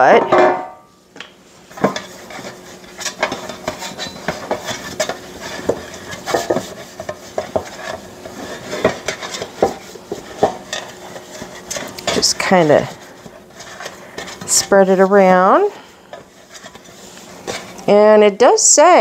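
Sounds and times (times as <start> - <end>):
hands greasing metal pan: 1.7 - 17.8.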